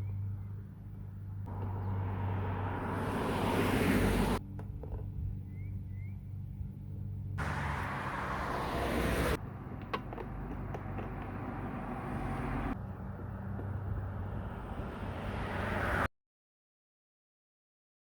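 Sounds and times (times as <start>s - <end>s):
steady outdoor rumble and hiss: 0.0s - 16.0s.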